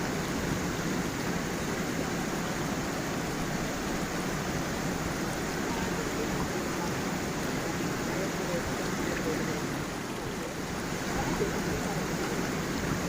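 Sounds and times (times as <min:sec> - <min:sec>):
stream and small waterfall flowing: 0:00.0 - 0:13.0.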